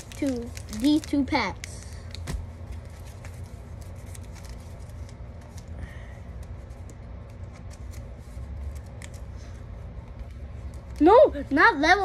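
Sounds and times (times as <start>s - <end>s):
cards clicking and rustling: 0.0s - 11.1s
steady low hum: 0.0s - 12.0s.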